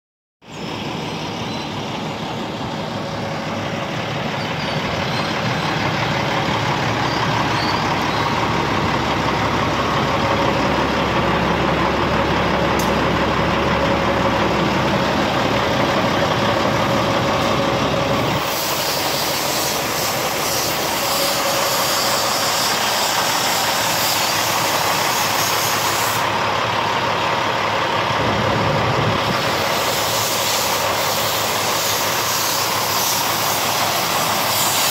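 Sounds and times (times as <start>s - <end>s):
truck diesel engine running: 0.5s - 34.9s.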